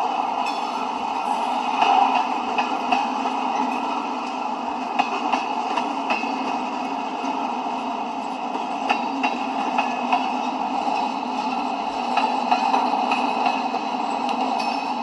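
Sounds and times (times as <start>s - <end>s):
freight train rumbling and rattling: 0.0s - 15.0s.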